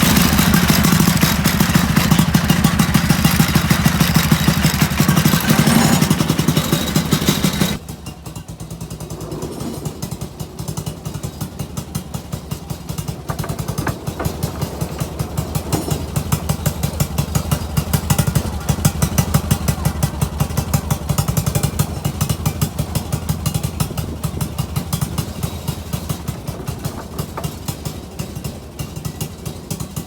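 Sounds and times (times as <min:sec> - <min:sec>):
miniature locomotive engine running: 0:00.0 - 0:30.0.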